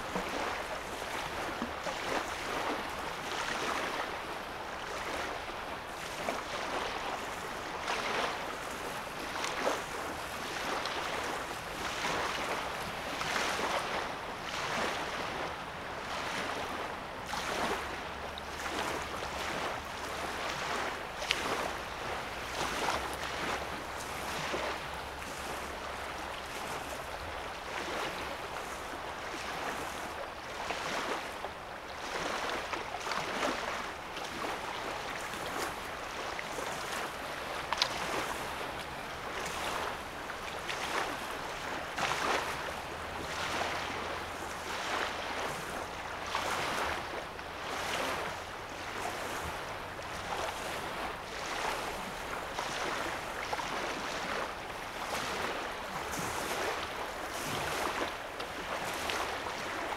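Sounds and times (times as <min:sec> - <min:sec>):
wavelets lapping on sandy shore: 0:00.0 - 0:59.9.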